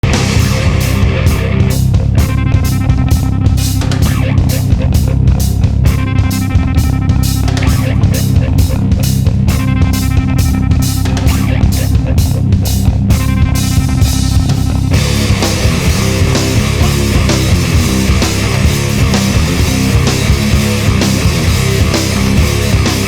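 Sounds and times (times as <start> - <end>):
bass guitar: 0.0 - 23.0
drum kit beat: 0.0 - 23.0
electric guitar riff: 0.0 - 23.0.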